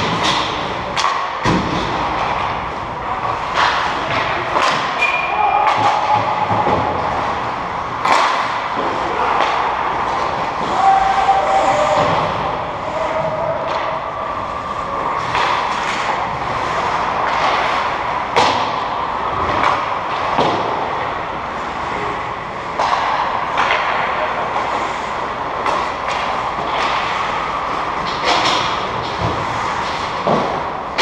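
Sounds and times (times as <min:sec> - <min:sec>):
puck and stick clacks: 0:00.0 - 0:22.0, 0:22.6 - 0:31.0.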